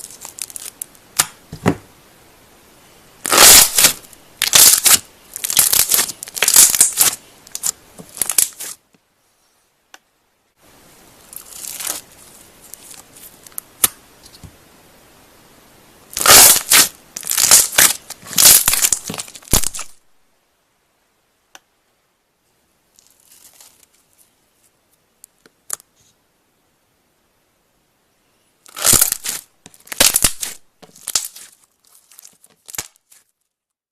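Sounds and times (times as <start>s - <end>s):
faint hiss: 0.0s - 33.7s.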